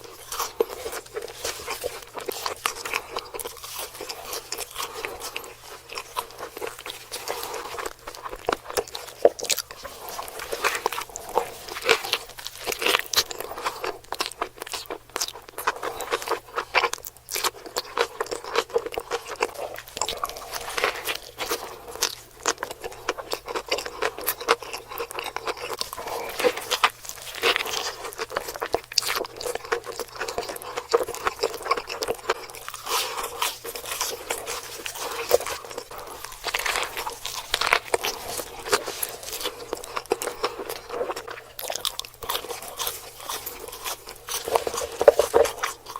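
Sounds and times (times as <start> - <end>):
biting and chewing food: 0.0 - 45.9.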